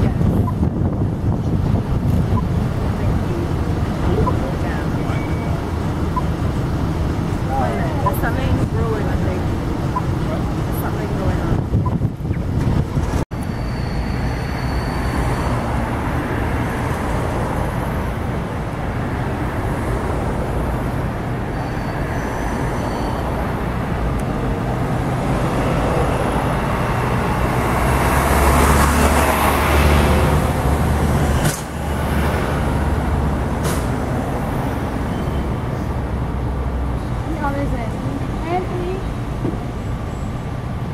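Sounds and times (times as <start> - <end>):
city street traffic: 0.0 - 40.9
tram rumbling past: 0.0 - 40.9.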